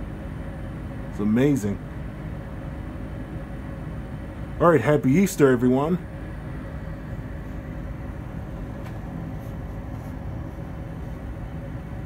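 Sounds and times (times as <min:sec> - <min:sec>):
faint hum: 0:00.0 - 0:12.0
gas furnace low rumble: 0:00.0 - 0:12.0.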